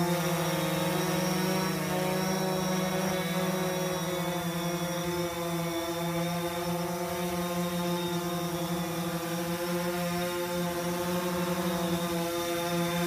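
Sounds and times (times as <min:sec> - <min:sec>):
quadcopter hum: 0:00.0 - 0:13.0.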